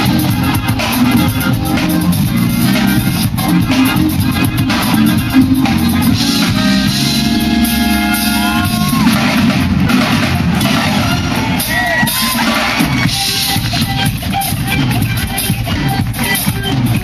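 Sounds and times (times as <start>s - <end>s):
live band playing amplified music: 0.0s - 17.0s.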